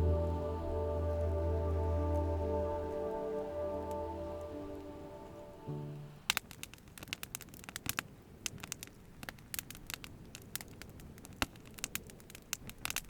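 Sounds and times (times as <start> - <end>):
campfire crackling: 0.0 - 13.0
low hiss: 0.0 - 13.0.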